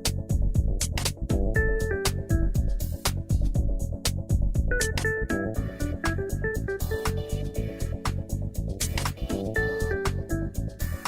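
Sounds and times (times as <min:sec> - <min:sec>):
bass: 0:00.0 - 0:11.0
drums: 0:00.0 - 0:11.0.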